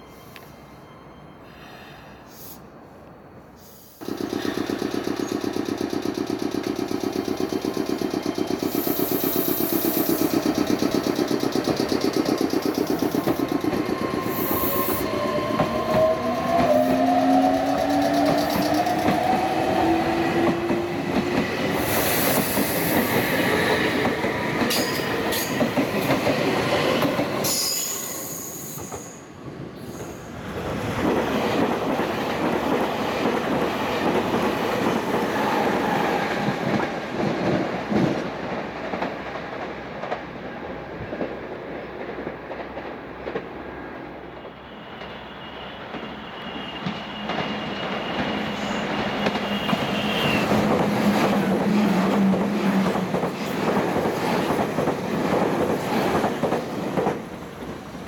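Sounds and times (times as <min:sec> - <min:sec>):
high train whine: 0:00.0 - 0:58.0
train rail noise: 0:00.0 - 0:58.0.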